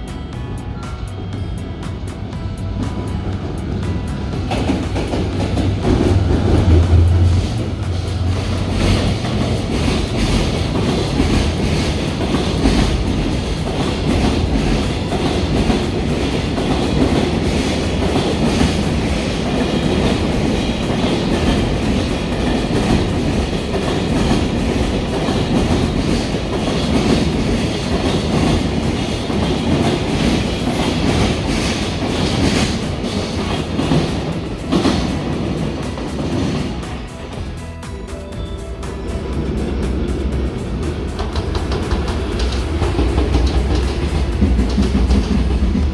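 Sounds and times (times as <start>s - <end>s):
freight train wagons rumbling: 0.0s - 45.9s.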